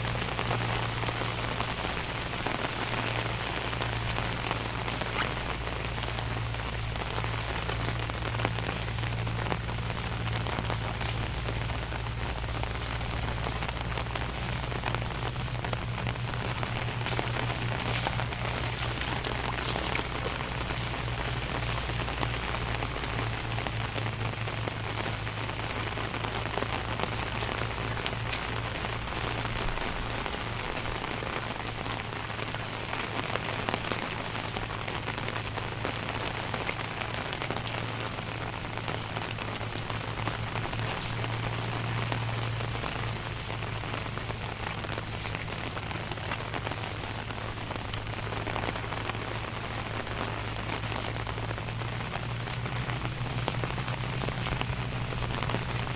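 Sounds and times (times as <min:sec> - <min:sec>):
low hum: 0:00.0 - 0:55.9
steady rain falling: 0:00.0 - 0:55.9.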